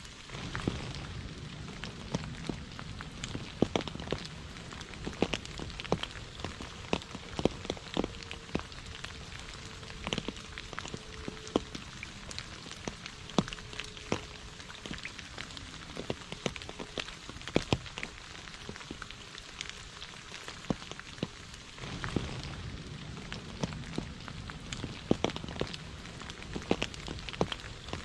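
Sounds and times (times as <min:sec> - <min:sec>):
rain pattering on puddle: 0:00.0 - 0:28.0
low rumble: 0:00.3 - 0:16.7, 0:21.8 - 0:28.0.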